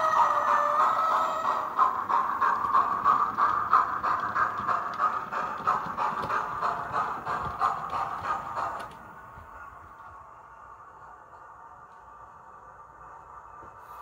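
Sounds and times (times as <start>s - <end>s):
steam hiss: 0.0s - 11.2s, 12.3s - 14.0s
model steam locomotive chuffs: 0.0s - 14.0s.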